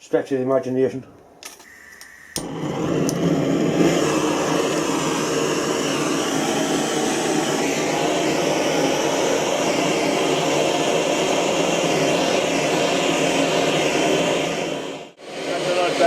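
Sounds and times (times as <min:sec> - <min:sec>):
torch flame rushing: 0:02.4 - 0:16.0.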